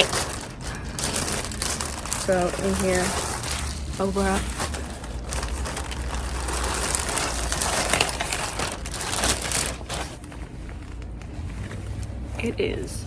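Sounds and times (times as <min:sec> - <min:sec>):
bubble wrap crinkling and crackling: 0:00.0 - 0:13.0.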